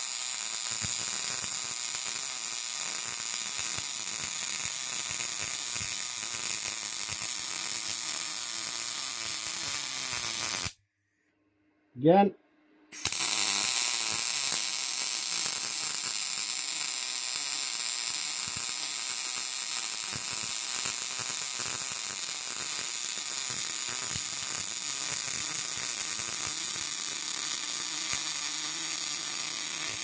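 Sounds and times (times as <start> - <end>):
welding arc crackling sizzle: 0.0 - 10.8, 13.0 - 30.0.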